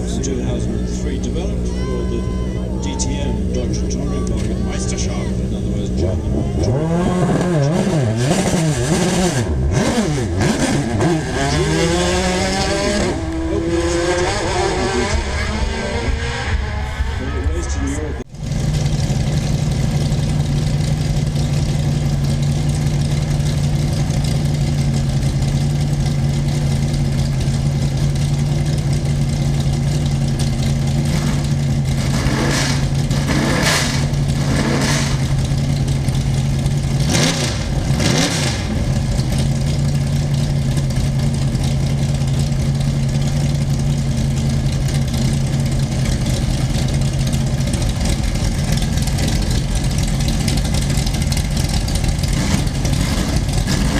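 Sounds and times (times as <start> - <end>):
race car engine idling and revving: 0.0 - 53.9.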